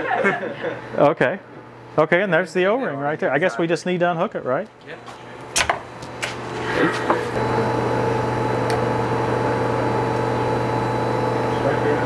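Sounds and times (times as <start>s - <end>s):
electric machine hum: 0.0s - 12.0s.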